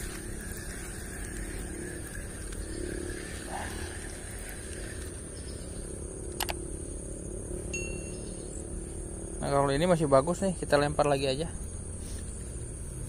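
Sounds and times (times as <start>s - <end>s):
distant road traffic and motorbikes: 0.0s - 13.0s
insects droning: 0.0s - 13.0s.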